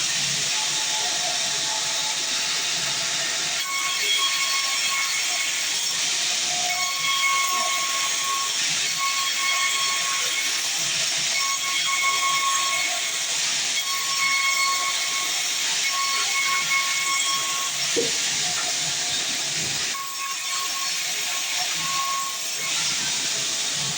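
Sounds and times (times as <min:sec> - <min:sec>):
band saw cutting log: 0:00.0 - 0:23.9.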